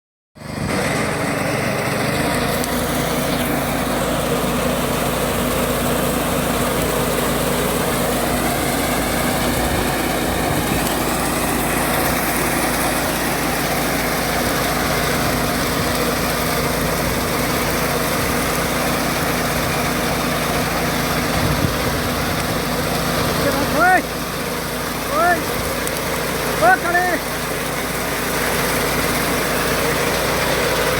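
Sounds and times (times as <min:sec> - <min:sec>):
small engine running: 0:00.4 - 0:30.9.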